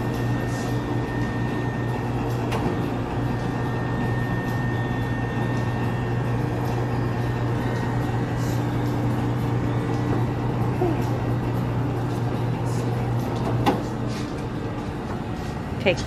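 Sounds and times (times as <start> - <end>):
thin high whine: 0.0 - 13.3
refrigeration hum: 0.0 - 16.0.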